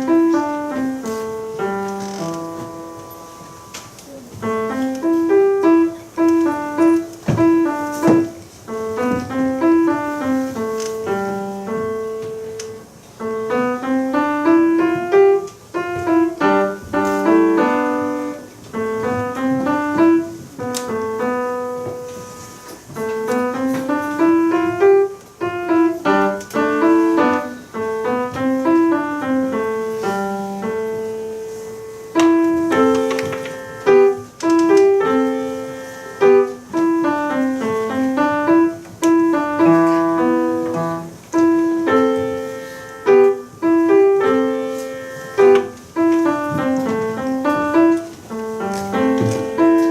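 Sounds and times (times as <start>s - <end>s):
solo piano playing upbeat tune: 0.0s - 49.9s.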